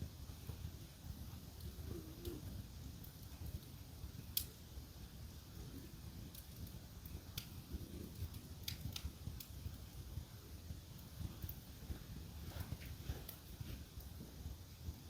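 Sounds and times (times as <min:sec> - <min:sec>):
fire crackling pops: 0:00.0 - 0:15.0
wood fire rumbling: 0:00.0 - 0:15.0.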